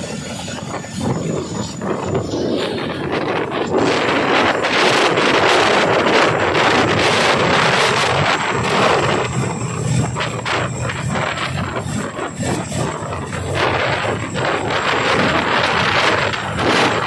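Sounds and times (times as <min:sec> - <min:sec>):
helicopter engines: 0:00.0 - 0:17.0.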